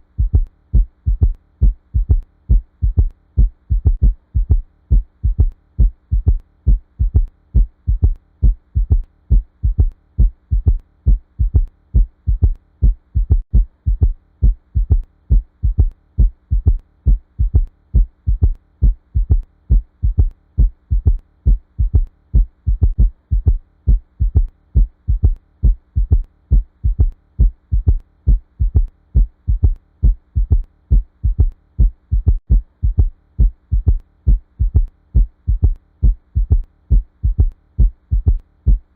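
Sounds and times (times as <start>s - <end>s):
heartbeat with gallop: 0.0s - 38.9s.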